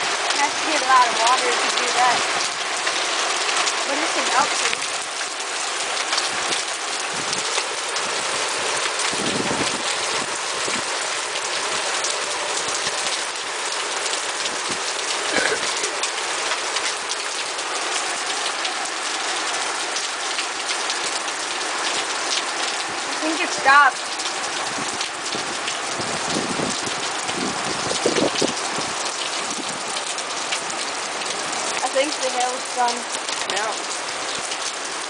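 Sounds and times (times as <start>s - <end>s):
hail pelting down: 0.0s - 35.0s
heavy rain: 0.0s - 35.0s.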